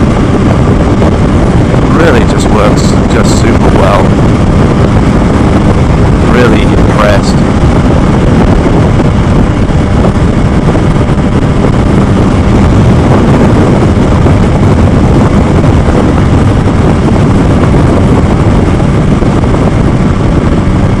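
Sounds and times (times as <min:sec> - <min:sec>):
motorcycle at highway speed: 0:00.0 - 0:21.0
wind rushing: 0:00.0 - 0:21.0.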